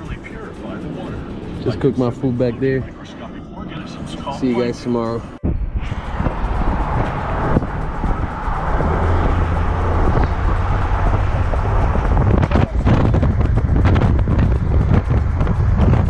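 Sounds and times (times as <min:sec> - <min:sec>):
car engine and road rumble: 0:00.0 - 0:16.0
wind gusting against microphone: 0:00.0 - 0:16.0.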